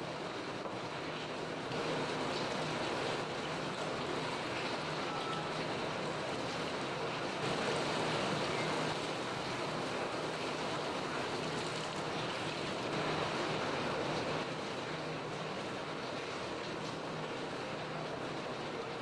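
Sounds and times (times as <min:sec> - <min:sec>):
tap water running into sink: 0:00.6 - 0:19.0.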